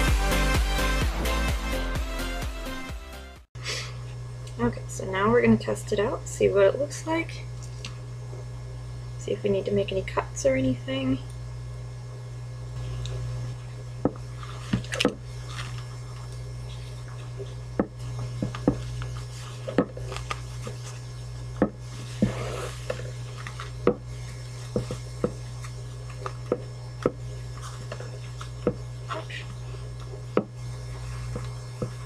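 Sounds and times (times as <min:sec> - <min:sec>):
low hum: 0:03.8 - 0:32.0.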